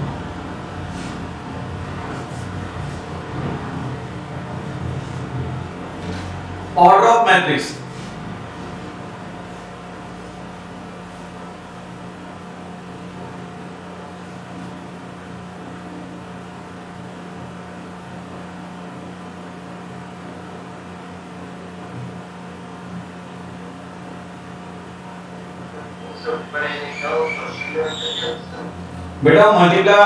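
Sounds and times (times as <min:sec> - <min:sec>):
low constant hum: 0:00.0 - 0:18.3, 0:22.8 - 0:30.0.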